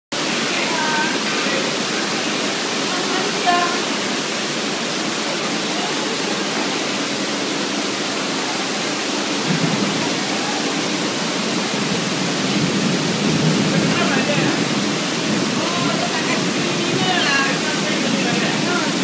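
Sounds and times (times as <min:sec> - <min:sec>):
heavy rain hissing: 0:00.1 - 0:19.0
running floodwater: 0:00.1 - 0:19.0.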